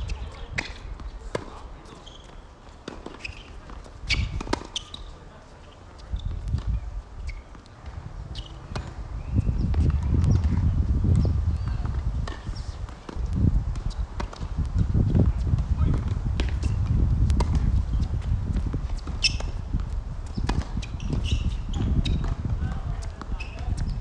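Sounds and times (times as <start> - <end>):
tennis ball bouncing: 0.2 - 1.6, 2.8 - 5.1, 6.2 - 23.9.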